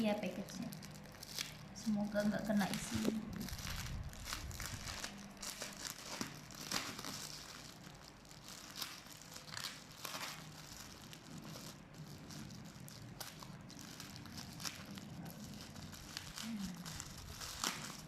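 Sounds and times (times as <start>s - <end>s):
packaging crinkling and tearing: 0.0s - 18.0s.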